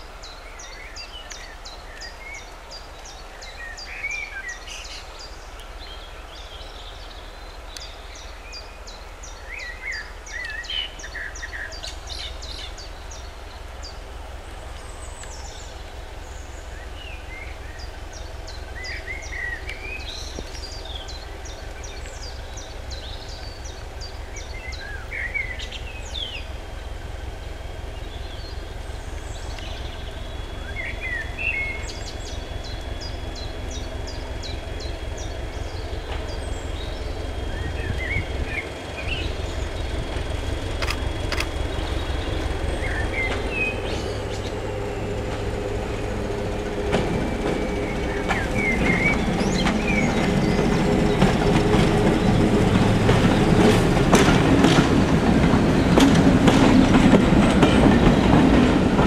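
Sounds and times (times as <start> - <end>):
birds singing: 0.0 - 26.6, 27.9 - 59.0
locomotive engine rumble: 0.0 - 59.0.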